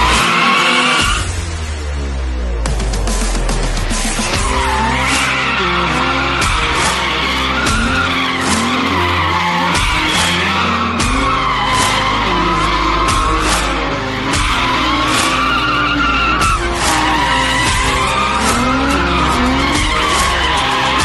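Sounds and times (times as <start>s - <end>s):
tyres squealing: 0.0s - 1.3s, 4.2s - 21.0s
car engine revving: 0.0s - 21.0s.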